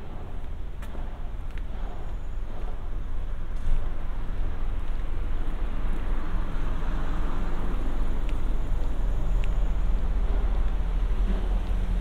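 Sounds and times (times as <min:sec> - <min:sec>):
engine hum: 0:00.0 - 0:12.0
road traffic rumble: 0:00.0 - 0:12.0.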